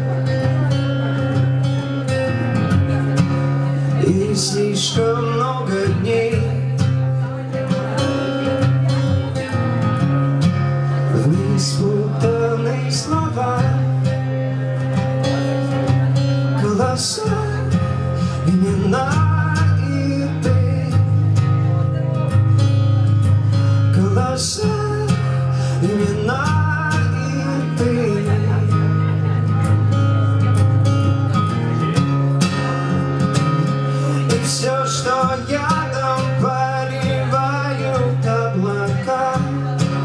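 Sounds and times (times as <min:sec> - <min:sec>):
man singing into a microphone: 0:00.0 - 0:09.8, 0:10.5 - 0:30.0, 0:32.5 - 0:40.0
acoustic guitar strummed and picked: 0:00.0 - 0:40.0.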